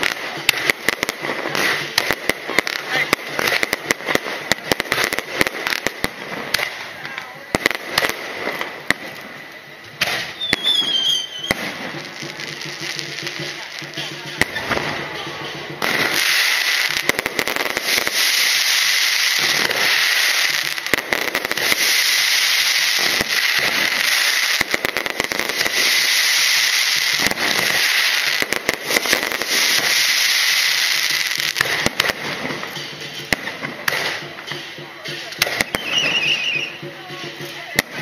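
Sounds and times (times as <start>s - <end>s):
fireworks crackling and popping: 0.0s - 38.0s.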